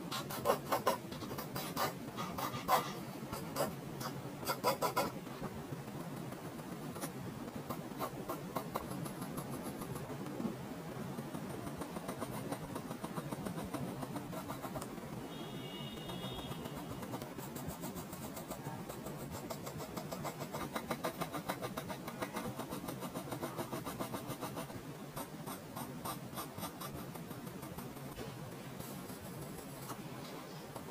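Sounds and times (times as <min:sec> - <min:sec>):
pencil scratching on paper: 0:00.1 - 0:05.2, 0:05.9 - 0:10.1, 0:11.2 - 0:15.1, 0:16.0 - 0:28.2, 0:28.8 - 0:30.1.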